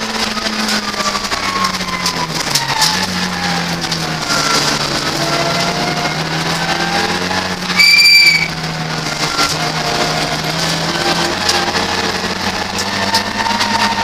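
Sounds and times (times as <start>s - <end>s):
race car engine revving: 0.0s - 14.0s
loud high-pitched squeal: 1.0s - 14.0s.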